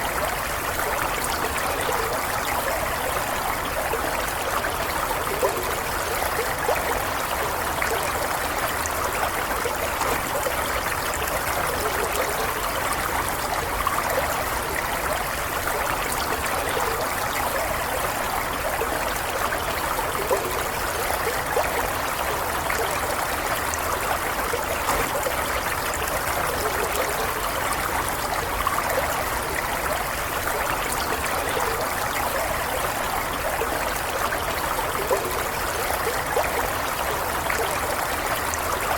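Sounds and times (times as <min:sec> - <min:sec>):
stream water gurgling: 0:00.0 - 0:38.9.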